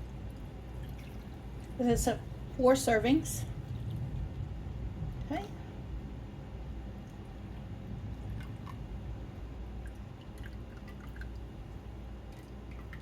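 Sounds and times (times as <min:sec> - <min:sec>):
faint liquid drips: 0:00.0 - 0:05.9, 0:06.8 - 0:13.0
steady low hum: 0:00.0 - 0:13.0.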